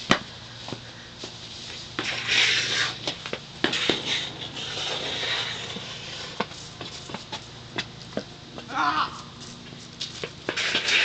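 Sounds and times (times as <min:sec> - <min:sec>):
hissy rustling and scraping: 0:00.6 - 0:08.1, 0:09.4 - 0:11.0.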